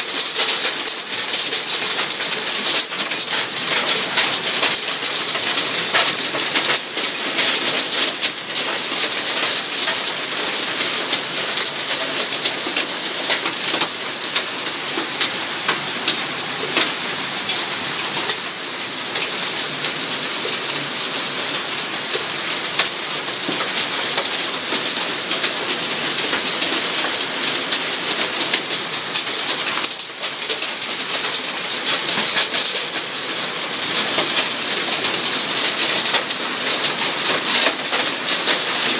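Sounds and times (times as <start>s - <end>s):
hail and rain rattling: 0.0s - 38.9s.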